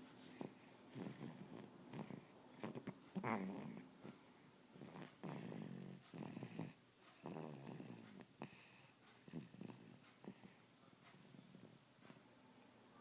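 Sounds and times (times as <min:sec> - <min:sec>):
faint snoring: 0:00.3 - 0:03.9, 0:04.7 - 0:11.8.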